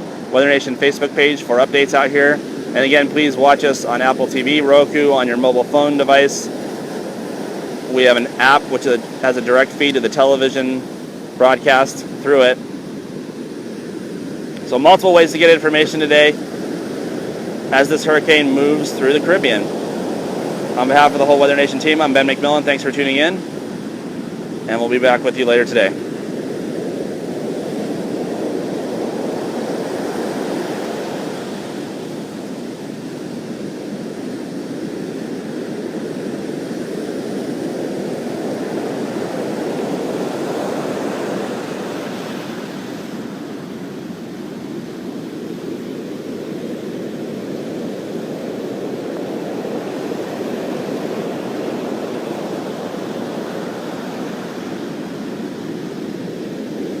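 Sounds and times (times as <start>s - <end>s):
surf waves roaring: 0.0s - 57.0s.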